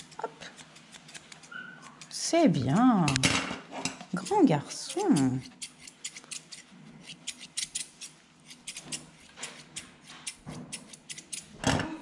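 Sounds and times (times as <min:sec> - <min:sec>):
scissors snipping fur: 0:00.0 - 0:03.2, 0:04.1 - 0:11.6.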